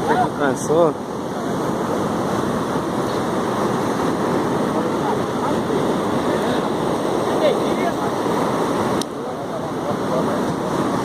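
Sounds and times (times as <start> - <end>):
ocean surf rushing: 0.0 - 11.0.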